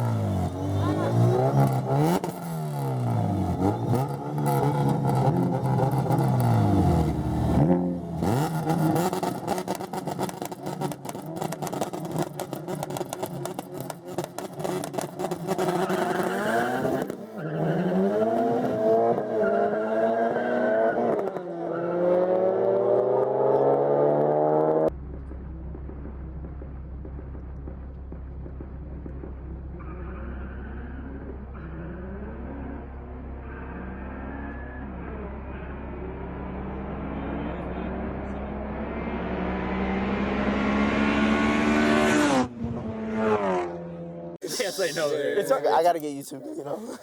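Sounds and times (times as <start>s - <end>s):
car engine revving hard: 0.0s - 24.9s, 29.9s - 44.4s.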